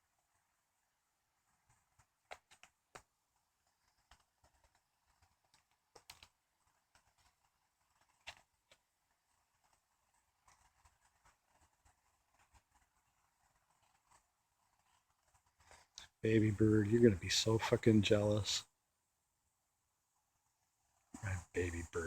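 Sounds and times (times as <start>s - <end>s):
faint clicks and ticks: 0.0s - 18.7s.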